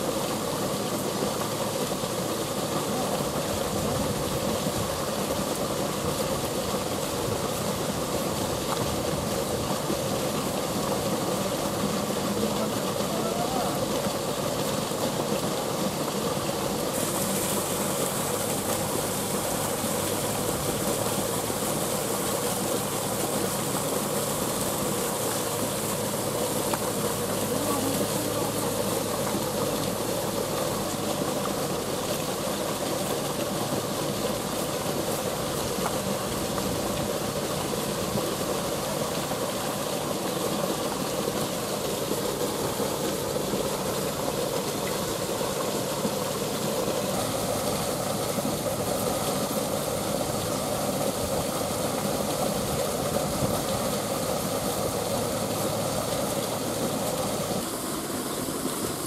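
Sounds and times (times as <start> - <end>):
water rushing down a small drop: 0.0 - 59.0.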